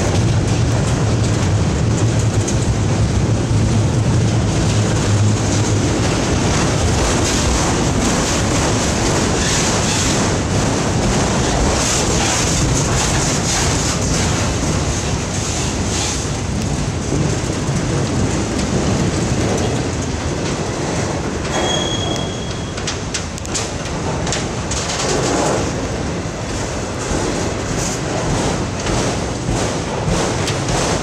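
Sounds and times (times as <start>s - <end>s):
freight train rolling on rails: 0.0s - 31.0s.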